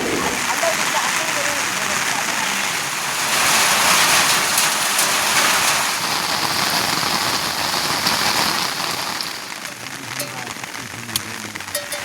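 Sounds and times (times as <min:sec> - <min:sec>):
heavy rain hissing: 0:00.0 - 0:12.0
rain drop ticks: 0:00.0 - 0:12.0.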